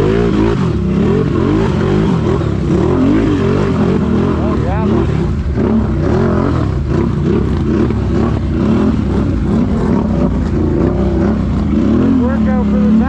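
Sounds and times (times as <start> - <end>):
atv engine revving: 0.0 - 13.0
churning through mud: 0.0 - 13.0.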